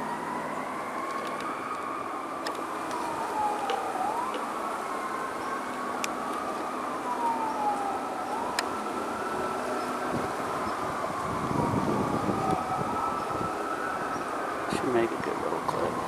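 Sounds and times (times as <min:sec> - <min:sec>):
distant siren wailing: 0:00.0 - 0:16.0
highway traffic hum: 0:00.0 - 0:16.0.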